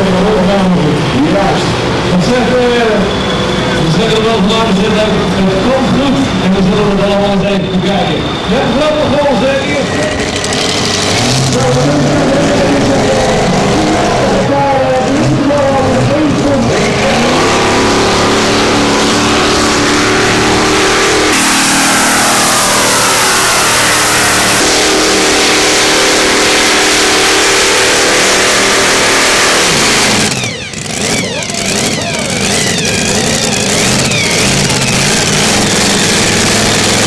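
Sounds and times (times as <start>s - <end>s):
pulling tractor engine revving: 0.0s - 37.0s.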